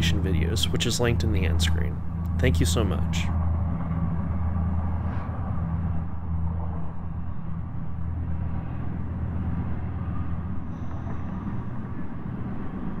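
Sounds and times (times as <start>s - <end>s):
engine rumbling: 0.0s - 13.0s
low droning tones: 0.0s - 13.0s.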